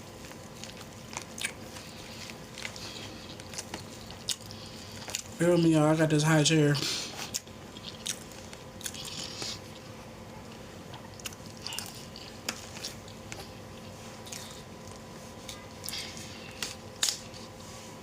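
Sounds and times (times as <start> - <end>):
chewing mouth sounds: 0.2 - 5.3, 6.8 - 9.9, 10.9 - 17.3.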